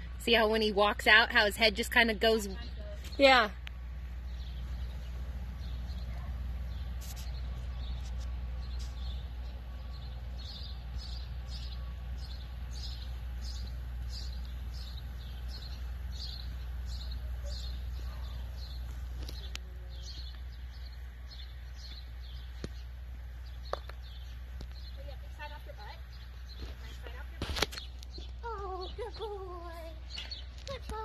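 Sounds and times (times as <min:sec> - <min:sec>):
low outdoor rumble: 0:00.0 - 0:31.0
small bird chirping: 0:02.6 - 0:31.0.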